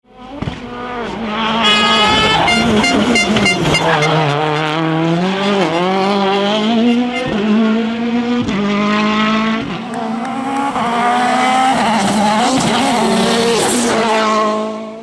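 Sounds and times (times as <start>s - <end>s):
rally car engine revving: 0.3s - 15.0s.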